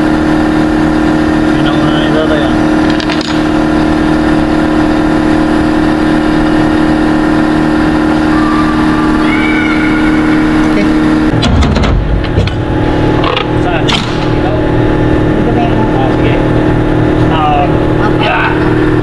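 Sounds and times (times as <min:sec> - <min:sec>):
low machine drone: 0:00.0 - 0:19.0.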